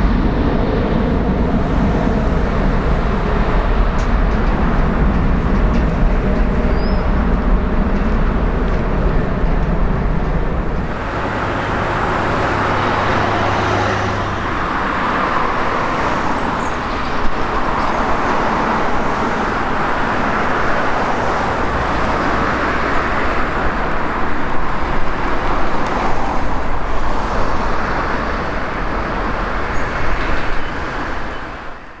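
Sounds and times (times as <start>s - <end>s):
jet engines at takeoff thrust: 0.0s - 32.0s.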